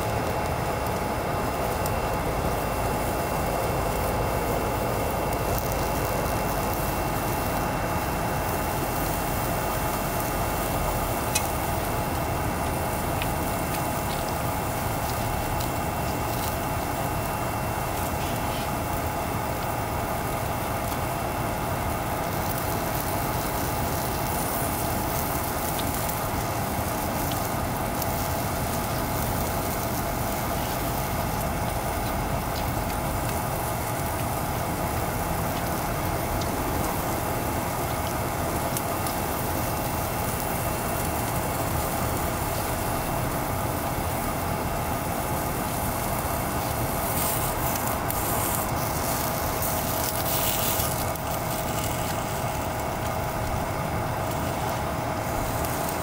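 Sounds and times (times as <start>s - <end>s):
food sizzling in frying pan: 0.0s - 56.0s
gas stove burner running: 0.0s - 56.0s.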